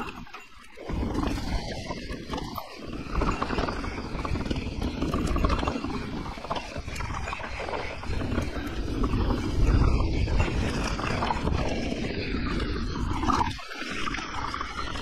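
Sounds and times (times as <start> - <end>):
bike rattling: 0.0 - 15.0
wind rumble on microphone: 0.0 - 15.0.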